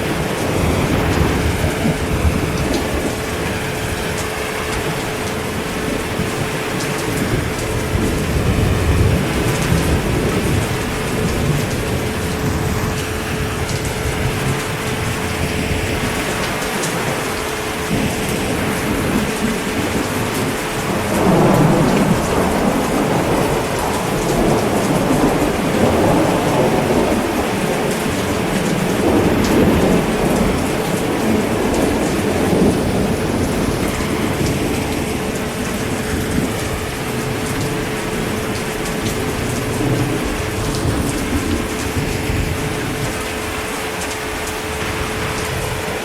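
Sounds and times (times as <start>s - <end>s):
heavy rain: 0.0s - 46.0s
thunder rumbling: 0.0s - 46.0s.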